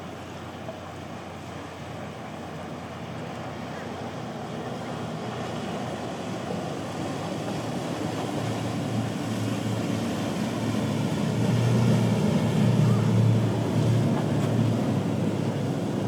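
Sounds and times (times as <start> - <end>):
motorboat engines droning: 0.0 - 16.0.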